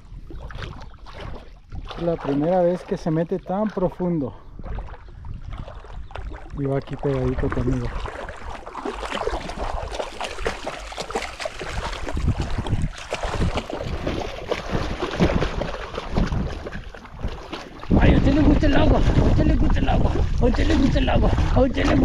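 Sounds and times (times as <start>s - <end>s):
wind rumbling on microphone: 0.0s - 2.3s, 3.2s - 22.0s
water sloshing while wading: 0.0s - 22.0s.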